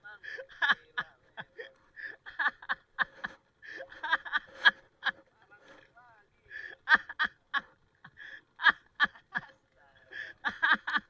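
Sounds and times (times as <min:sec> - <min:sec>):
man laughing: 0:00.2 - 0:05.9, 0:06.5 - 0:11.0.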